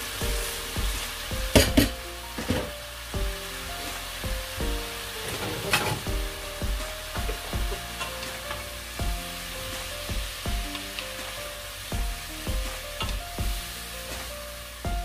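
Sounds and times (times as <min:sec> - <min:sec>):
background music with bass beat: 0:00.0 - 0:15.0
food sizzling in a frying pan: 0:00.0 - 0:15.0.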